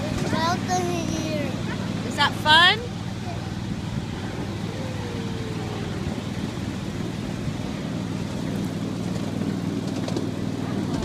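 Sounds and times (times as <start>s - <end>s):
train drone and rumble: 0.0s - 11.0s.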